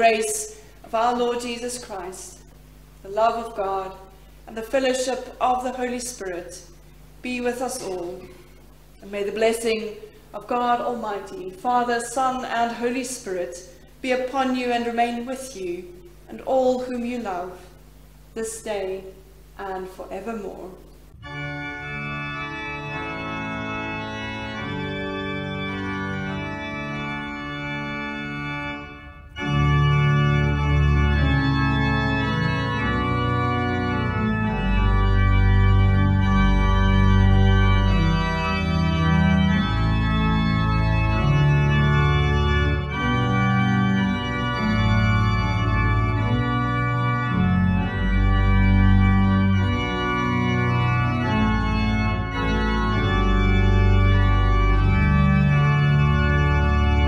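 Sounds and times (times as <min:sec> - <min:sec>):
church organ chords: 0:00.0 - 0:57.0.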